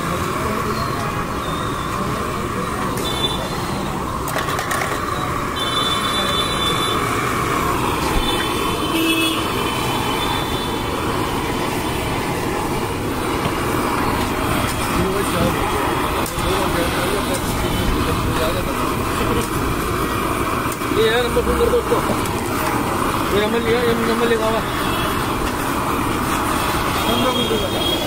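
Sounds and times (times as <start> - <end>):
background chatter: 0.0 - 28.0
gas burner roaring hiss: 0.0 - 28.0.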